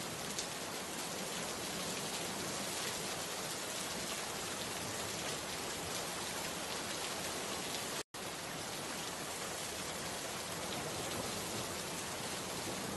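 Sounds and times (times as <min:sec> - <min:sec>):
steady rain-like hiss: 0:00.0 - 0:12.9.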